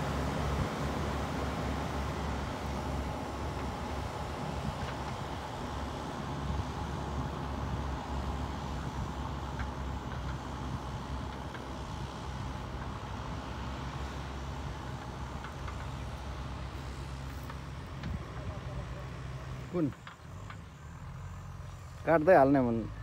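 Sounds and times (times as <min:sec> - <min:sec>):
diesel engines rumbling: 0:00.0 - 0:23.0.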